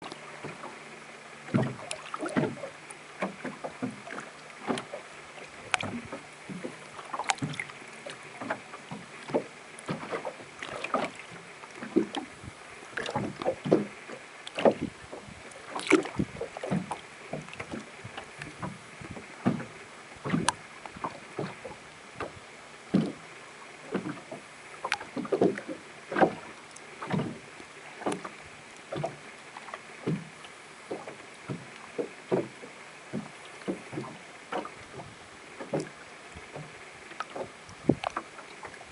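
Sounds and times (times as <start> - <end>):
faint wash of water: 0.0 - 38.9
small waves slapping against hull: 0.0 - 38.9.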